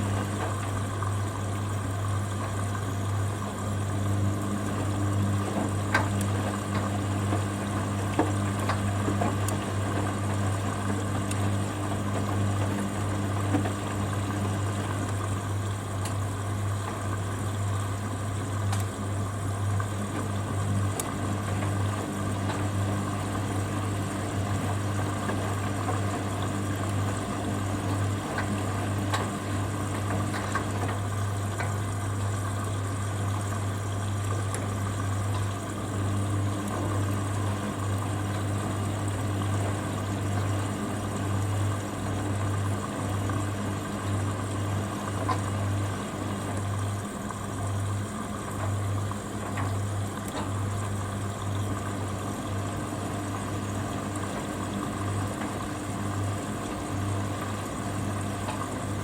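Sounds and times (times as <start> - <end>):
drain pump humming: 0.0 - 59.0
washing machine drum spinning: 0.0 - 59.0
water draining: 0.0 - 59.0.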